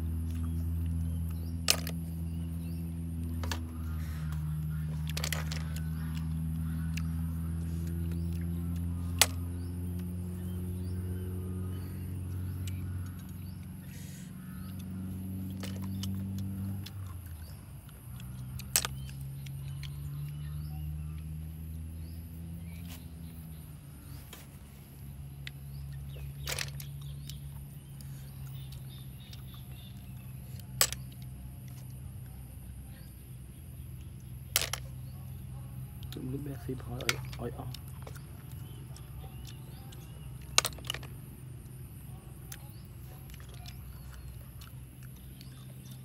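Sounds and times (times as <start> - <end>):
low motor drone: 0.0 - 46.0.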